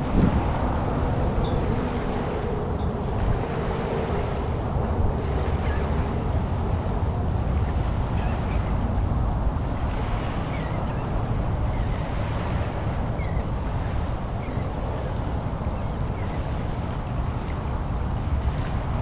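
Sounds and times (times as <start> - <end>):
small waves lapping on shore: 0.0 - 19.0
wind rumbling on microphone: 0.0 - 19.0.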